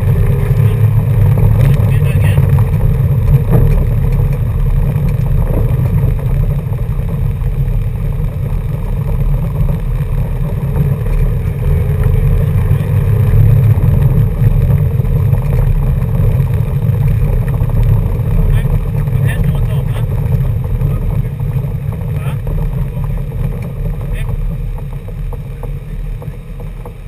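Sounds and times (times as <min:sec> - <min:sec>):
car rumbling on gravel: 0:00.0 - 0:27.0.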